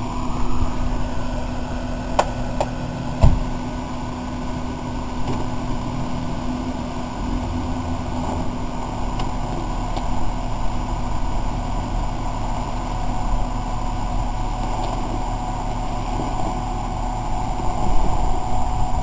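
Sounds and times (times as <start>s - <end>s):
engine running drone: 0.0s - 19.0s.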